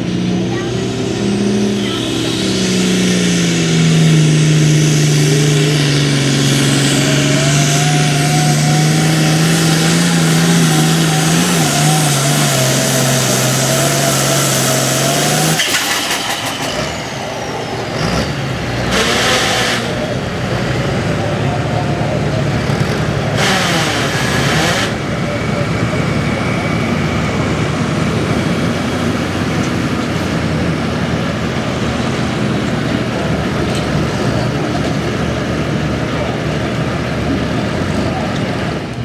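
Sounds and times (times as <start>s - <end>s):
diesel tractor engine at full throttle: 0.0s - 39.0s.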